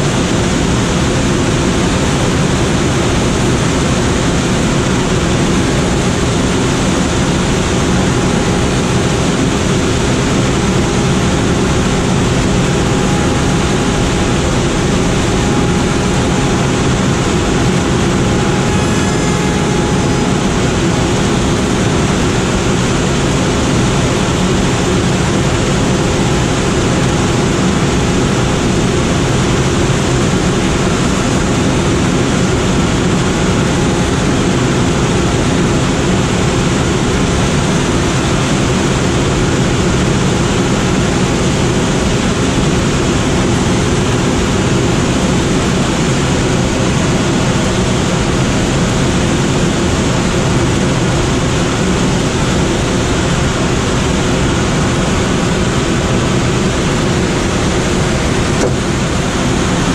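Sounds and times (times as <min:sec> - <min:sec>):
low engine drone: 0:00.0 - 0:59.9.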